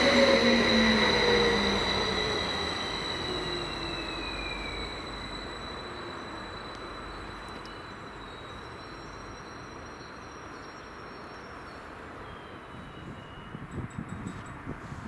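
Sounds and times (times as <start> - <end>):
thin high tone from train: 0.0 - 15.0
train rolling noise: 0.0 - 15.0.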